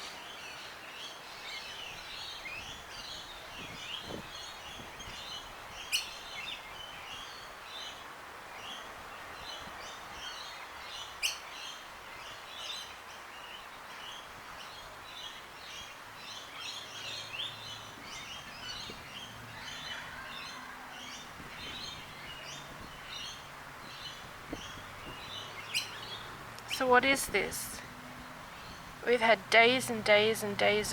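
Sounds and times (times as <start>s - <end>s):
background hiss: 0.0s - 30.9s
birds chirping: 0.0s - 30.9s.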